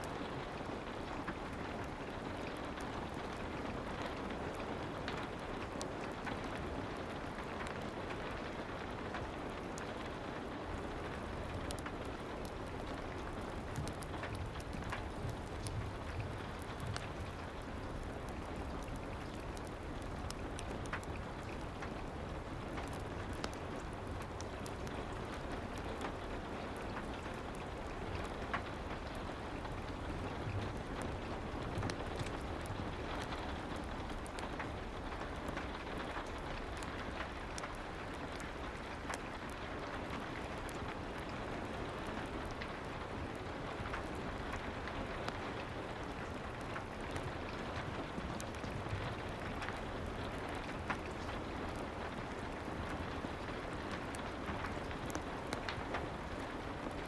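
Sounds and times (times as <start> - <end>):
soft rain falling: 0.0 - 57.0
fireplace crackling: 0.3 - 57.0.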